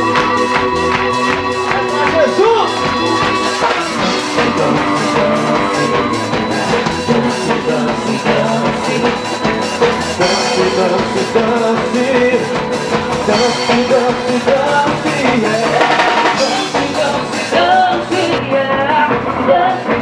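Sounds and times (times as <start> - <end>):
band playing: 0.0 - 20.0
drum kit steady beat: 0.0 - 20.0.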